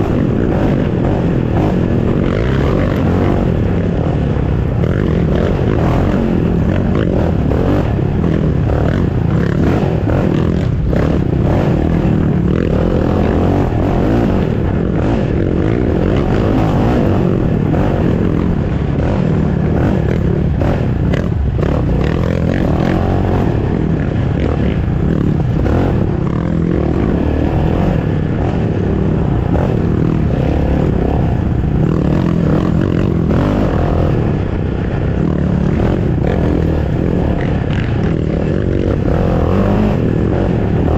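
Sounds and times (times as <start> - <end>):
atv engine running hard: 0.0 - 40.9.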